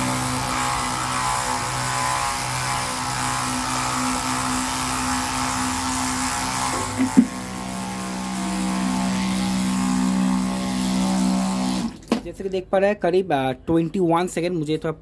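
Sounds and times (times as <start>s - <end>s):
spray pump humming: 0.0s - 12.1s.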